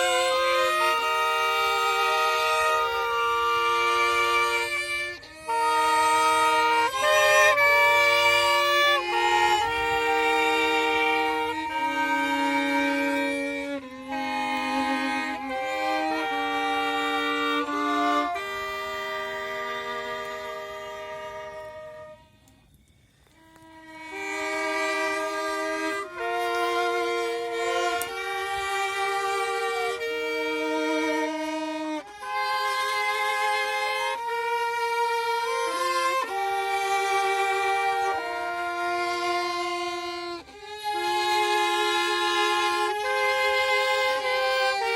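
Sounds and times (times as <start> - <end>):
fiddle playing slow melody: 0.0 - 44.9.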